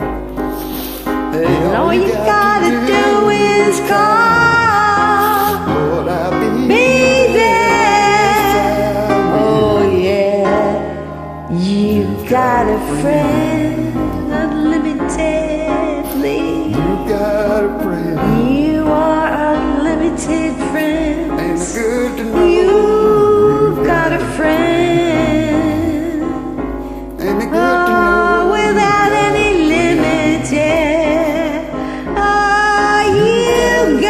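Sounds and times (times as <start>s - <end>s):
person singing karaoke: 0.0s - 34.0s
piano backing track: 0.0s - 34.0s.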